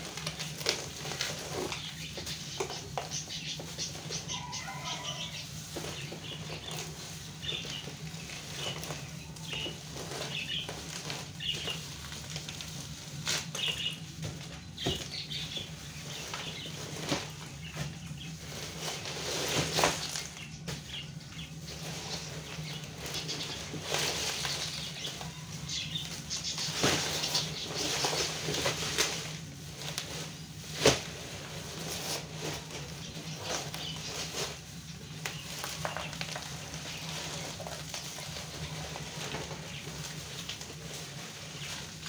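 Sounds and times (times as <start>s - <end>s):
plastic bag rustling: 0.0s - 42.0s.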